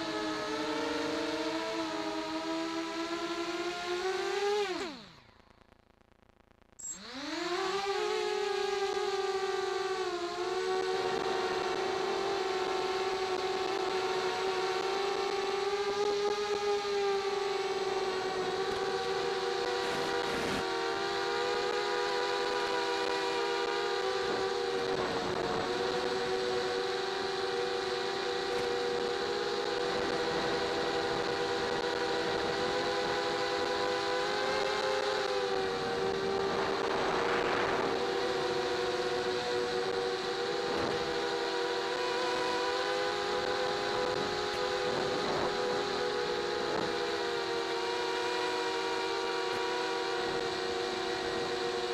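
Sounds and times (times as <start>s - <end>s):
model aircraft motors whining: 0.0s - 5.6s, 6.8s - 51.9s.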